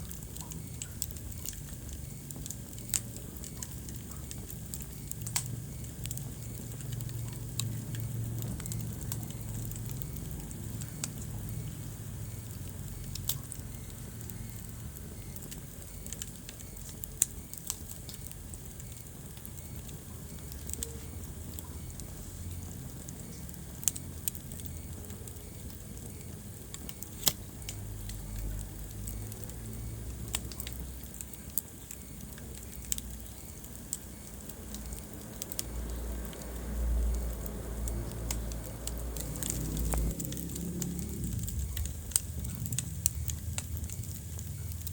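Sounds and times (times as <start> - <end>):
fire crackles and pops: 0.0 - 44.9
low rumble of flames: 0.0 - 44.9.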